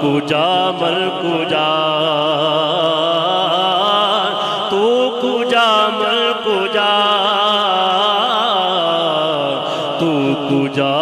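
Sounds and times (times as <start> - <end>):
man singing through loudspeakers: 0.0 - 11.0.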